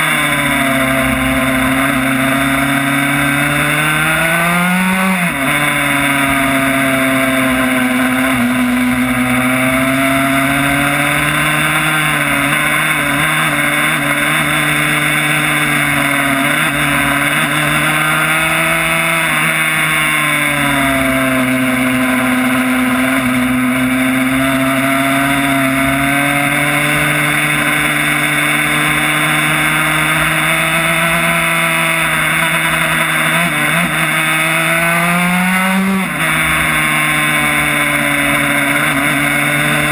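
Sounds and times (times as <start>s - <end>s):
two-stroke engine at high revs: 0.0s - 39.9s.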